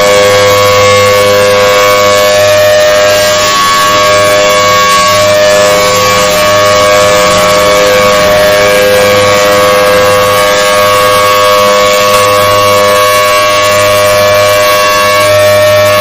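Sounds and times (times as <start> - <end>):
harsh alarm tone: 0.0 - 16.0
low hum: 0.0 - 16.0.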